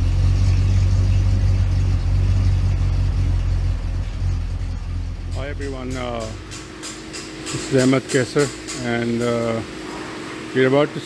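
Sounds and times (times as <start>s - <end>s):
car engine rumbling: 0.0s - 10.8s.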